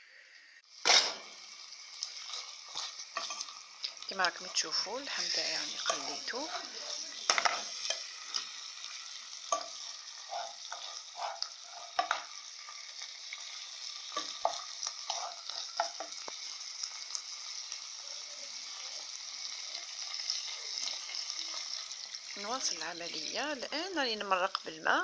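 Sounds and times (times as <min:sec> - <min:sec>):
food sizzling in oil: 0:00.6 - 0:25.0.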